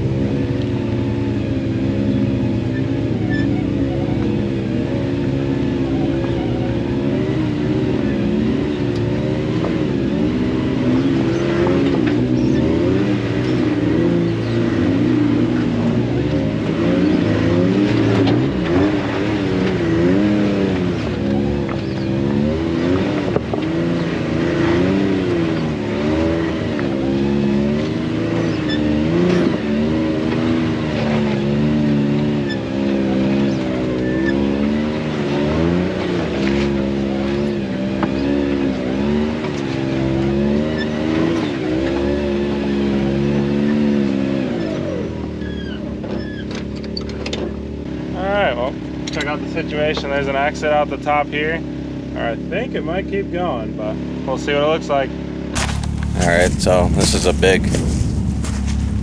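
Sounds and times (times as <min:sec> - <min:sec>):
utility vehicle engine revving: 0:00.0 - 0:59.0.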